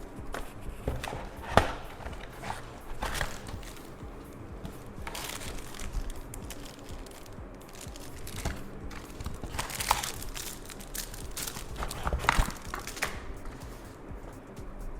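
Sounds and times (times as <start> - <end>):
packaging rustling and crinkling: 0.3 - 14.0.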